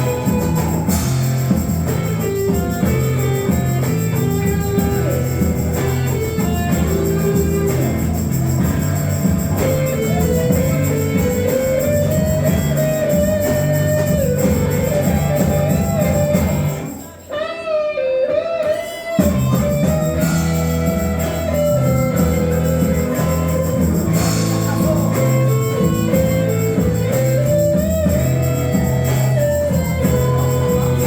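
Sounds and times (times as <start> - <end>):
bass line: 0.0 - 16.9, 19.2 - 31.0
held melody line: 0.0 - 17.6, 18.2 - 31.0
guitar playing: 0.0 - 31.0.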